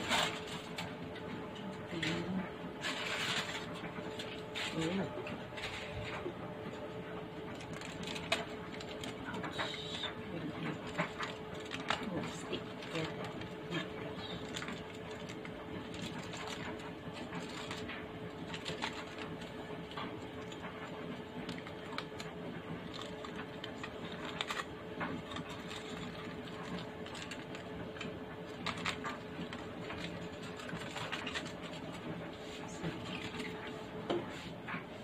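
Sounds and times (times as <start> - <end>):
aluminium foil crinkling: 0.0 - 1.0, 1.9 - 6.3, 7.4 - 33.7
steady mechanical hum: 0.0 - 35.0.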